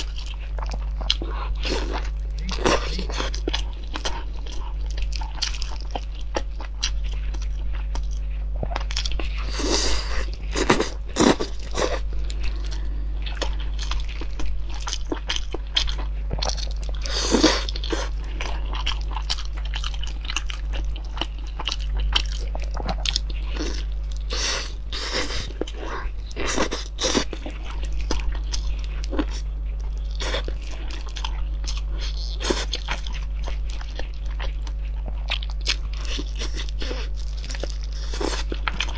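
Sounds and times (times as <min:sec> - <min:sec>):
chewing and crunching meat: 0:00.0 - 0:38.9
steady low hum: 0:00.0 - 0:38.9.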